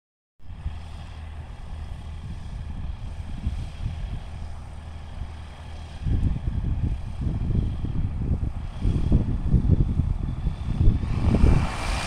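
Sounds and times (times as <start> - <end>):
light aircraft engine droning: 0.4 - 12.0.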